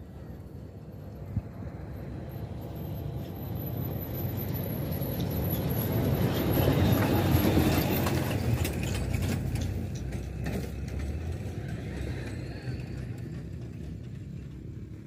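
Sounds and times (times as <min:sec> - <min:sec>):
vehicle passing by: 0:00.1 - 0:15.0.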